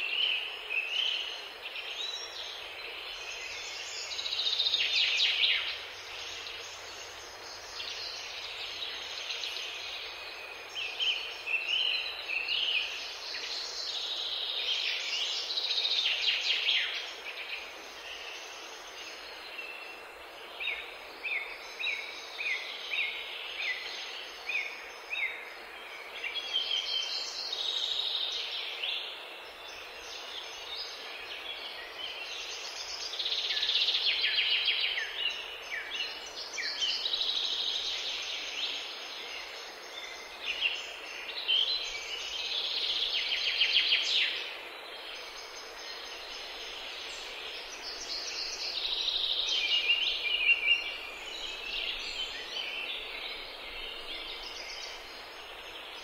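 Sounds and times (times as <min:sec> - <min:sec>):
faint background hiss: 0:00.0 - 0:56.0
songbirds singing: 0:00.0 - 0:56.0.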